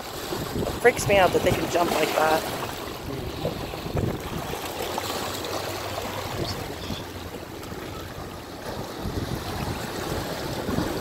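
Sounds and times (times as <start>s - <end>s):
wind rumble on microphone: 0.0s - 4.8s, 5.5s - 11.0s
water washing among rocks: 0.0s - 11.0s.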